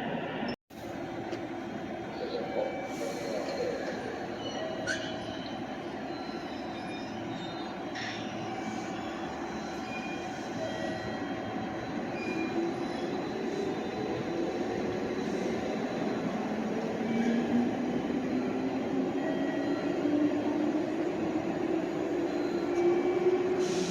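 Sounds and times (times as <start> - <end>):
electric train rumbling: 0.0 - 23.9
wheels squealing on rails: 2.1 - 23.9.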